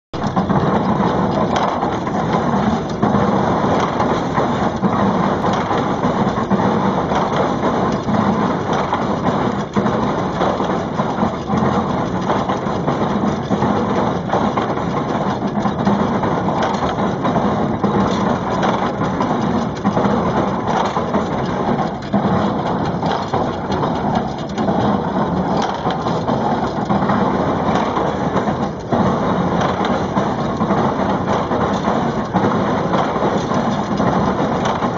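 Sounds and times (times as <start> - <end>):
baler mechanical clatter: 0.1 - 34.9.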